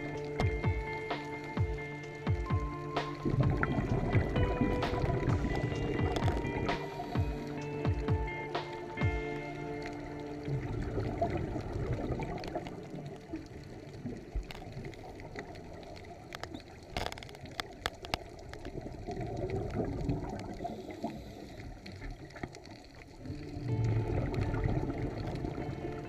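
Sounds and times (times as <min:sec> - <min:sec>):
underwater bubbling and gurgling: 0:00.0 - 0:26.0.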